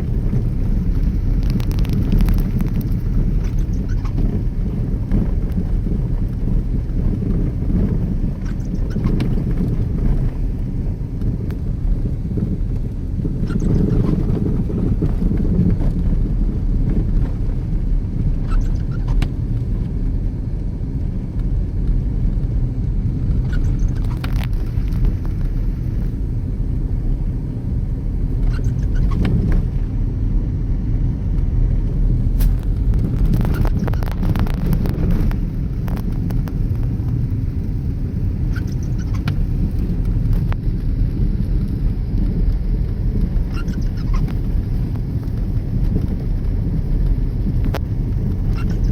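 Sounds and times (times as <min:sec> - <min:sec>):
car driving along road: 0:00.0 - 0:48.9.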